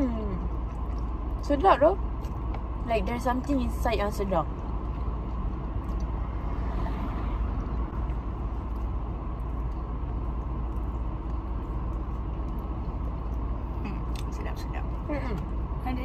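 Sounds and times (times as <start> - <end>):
car engine idling from inside: 0.0 - 6.2, 7.6 - 16.0.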